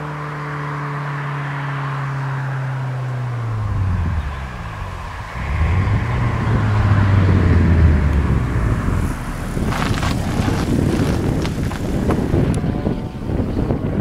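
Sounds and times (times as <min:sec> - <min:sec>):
car engine driving by: 0:00.0 - 0:13.8.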